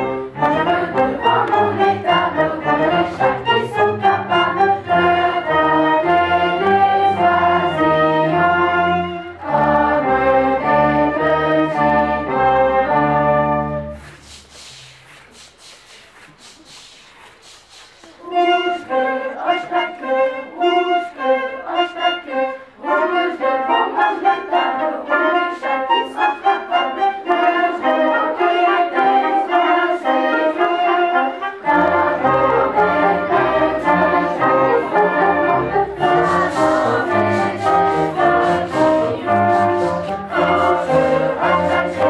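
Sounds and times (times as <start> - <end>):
violins: 0.0 - 15.4, 18.0 - 42.0
cello: 0.0 - 16.6, 17.3 - 42.0
viola: 0.0 - 16.7, 17.3 - 42.0
flute: 0.0 - 42.0.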